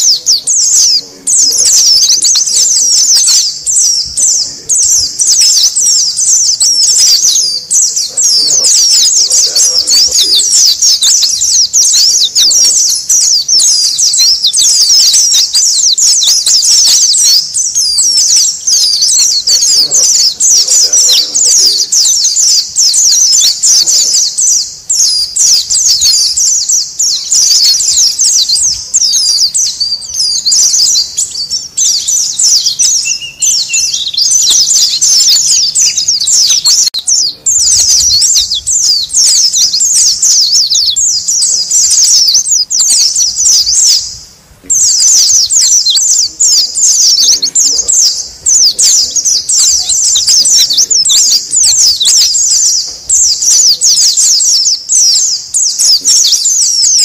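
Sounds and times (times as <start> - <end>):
birds chirping rapidly: 0.0 - 57.0.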